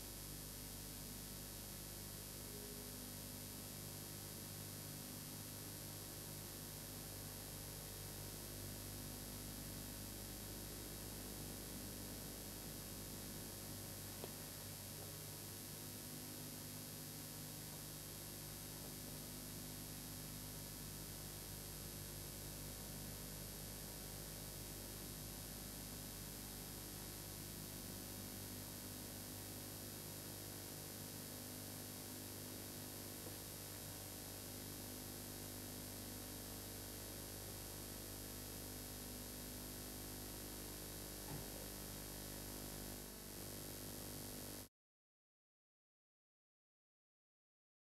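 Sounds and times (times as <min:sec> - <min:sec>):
low electrical hum: 0:00.0 - 0:44.7.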